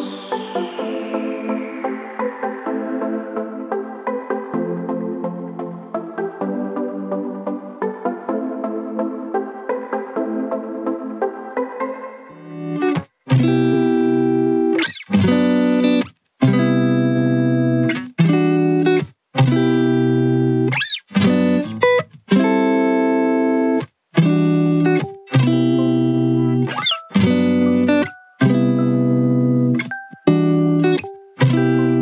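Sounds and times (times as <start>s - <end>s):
held chords music: 0.0s - 32.0s.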